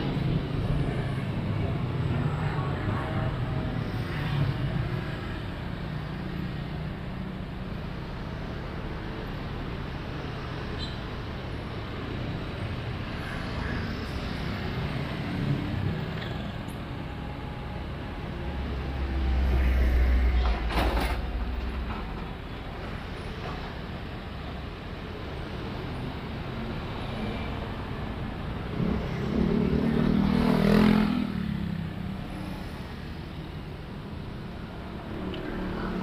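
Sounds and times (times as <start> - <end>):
scooters and cars passing: 0.0 - 36.0.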